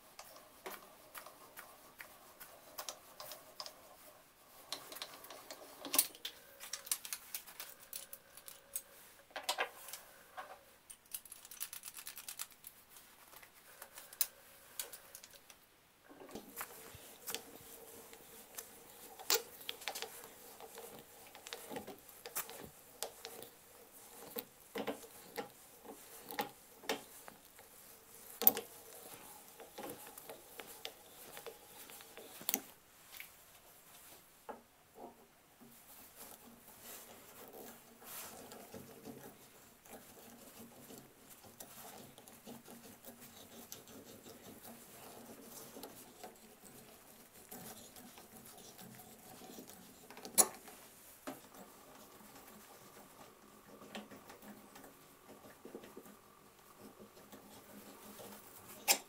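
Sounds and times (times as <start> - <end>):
reamer clicking and scraping in wood: 0.0 - 34.1, 35.0 - 59.0.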